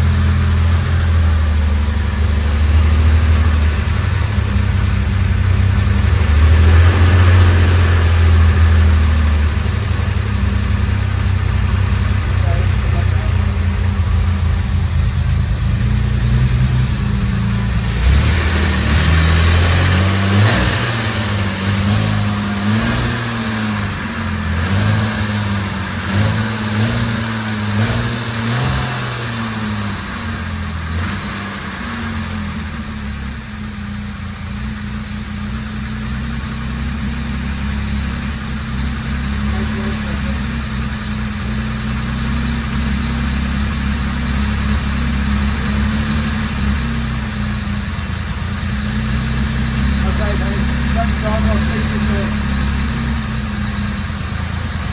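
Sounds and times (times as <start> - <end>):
car engine revving and idling: 0.0 - 54.9.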